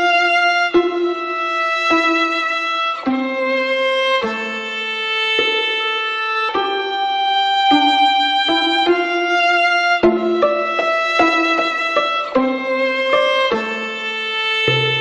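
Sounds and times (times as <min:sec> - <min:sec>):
slow violin melody: 0:00.0 - 0:15.0.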